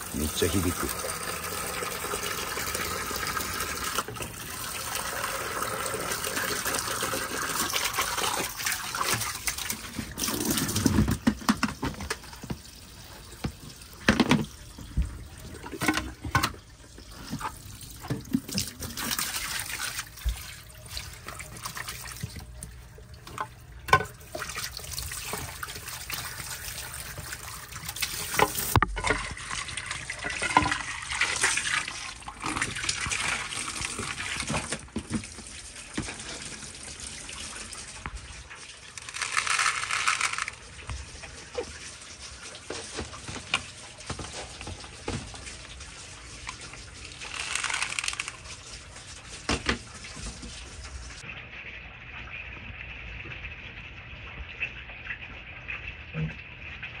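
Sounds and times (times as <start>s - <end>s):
water running and trickling: 0.0s - 57.0s.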